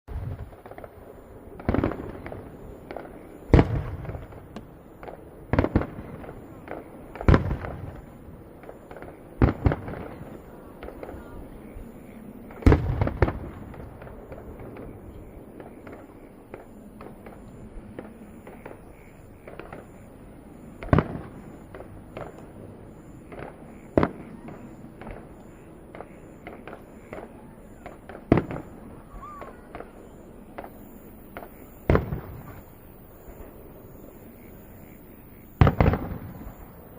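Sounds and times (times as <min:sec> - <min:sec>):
fireworks bangs: 0:00.1 - 0:36.9
fireworks crackles: 0:00.1 - 0:36.9.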